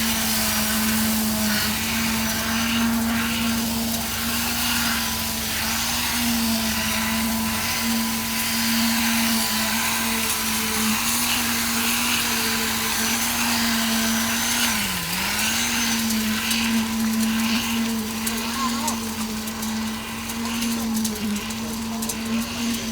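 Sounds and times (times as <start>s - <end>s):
motor running steadily: 0.0s - 22.9s.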